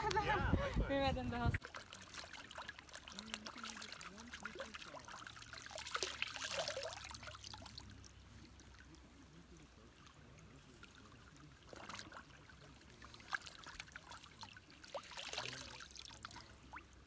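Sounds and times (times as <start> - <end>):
water trickling: 0.0 - 17.0
hands scooping water: 1.6 - 17.0.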